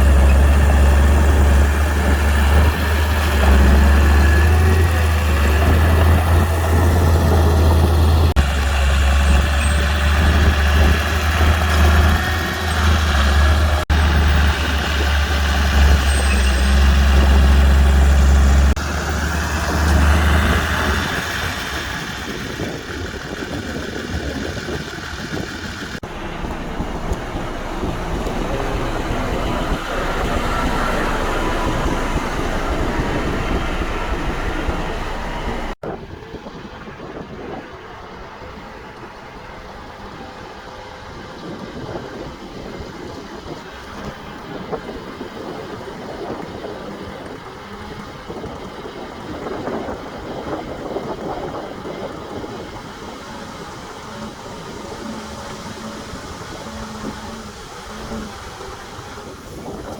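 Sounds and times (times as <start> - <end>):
heavy machine diesel engines running: 0.0 - 59.9
mechanical rumble: 0.0 - 59.9.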